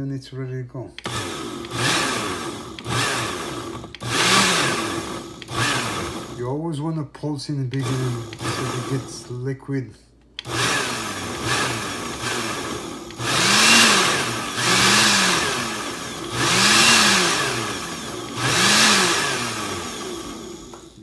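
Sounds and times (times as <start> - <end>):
blender motor pulsing: 1.0 - 6.6, 7.8 - 9.3, 10.4 - 21.0.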